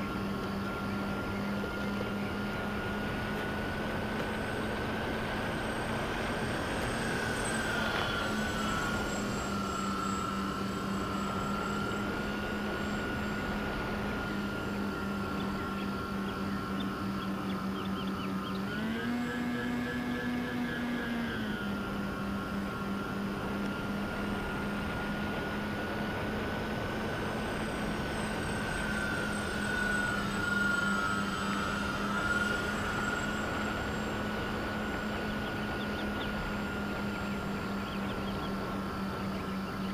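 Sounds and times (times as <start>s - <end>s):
model airplane motor whine: 0.0s - 39.9s.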